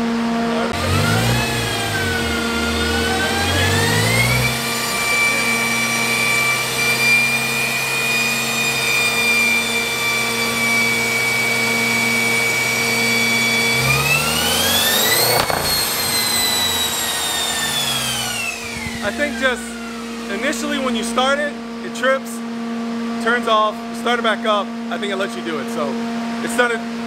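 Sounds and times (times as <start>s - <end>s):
cooling fans humming: 0.0s - 26.4s
car engine on dyno: 0.0s - 27.0s.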